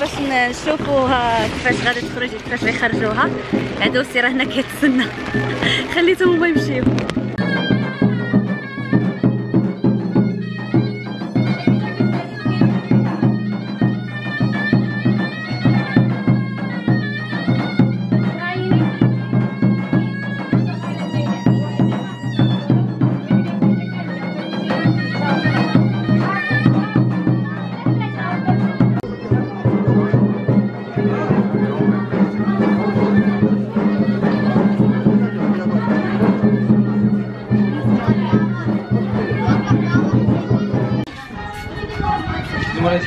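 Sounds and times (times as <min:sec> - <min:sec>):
shrill reed instrument melody: 0:01.6 - 0:43.0.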